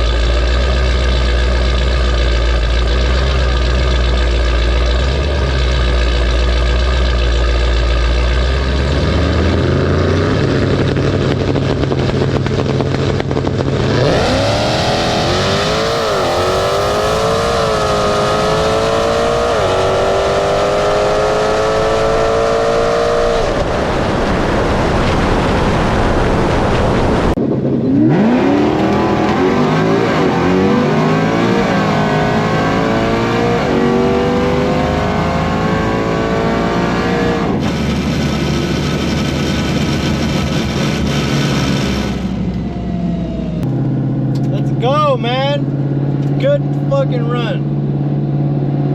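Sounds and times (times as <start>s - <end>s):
drag car engine accelerating: 0.0s - 48.9s.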